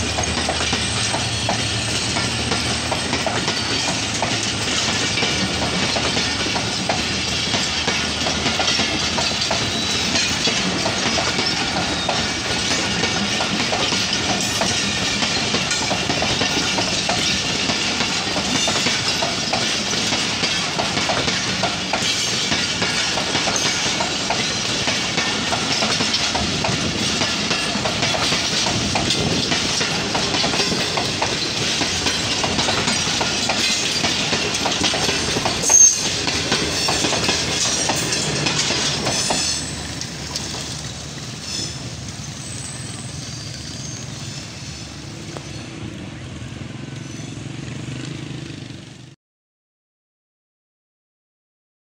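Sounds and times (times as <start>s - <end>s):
train wheels clattering over joints: 0.0s - 44.6s
train rumble: 0.0s - 49.2s.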